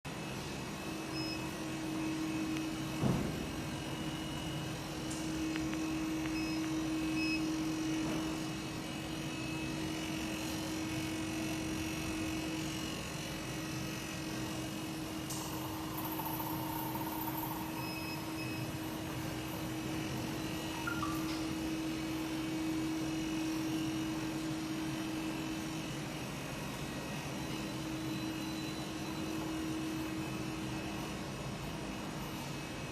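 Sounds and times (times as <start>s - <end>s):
machinery humming: 0.1s - 31.4s.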